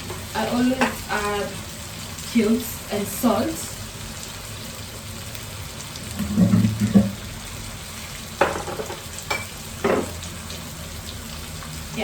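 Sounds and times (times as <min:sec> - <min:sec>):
onions and tomatoes sizzling: 0:00.0 - 0:12.0.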